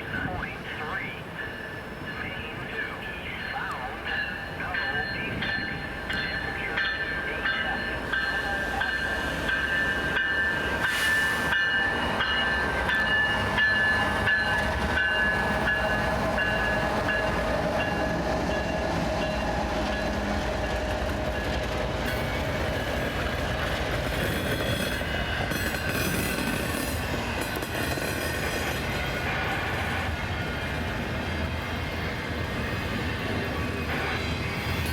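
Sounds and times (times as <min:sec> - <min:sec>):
train rumbling past: 0:00.0 - 0:34.9.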